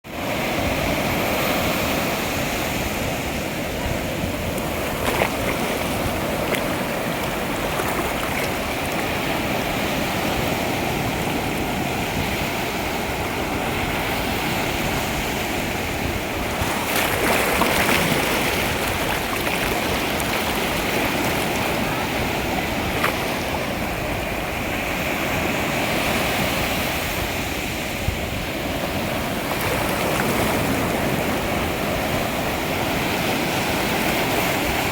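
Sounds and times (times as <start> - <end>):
ocean waves washing onto shore: 0.1 - 34.9.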